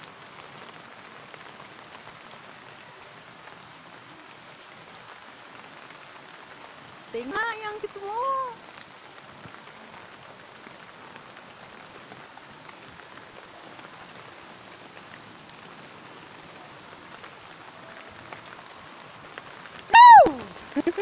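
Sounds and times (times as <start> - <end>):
light rain on foliage and paving: 0.0 - 21.0.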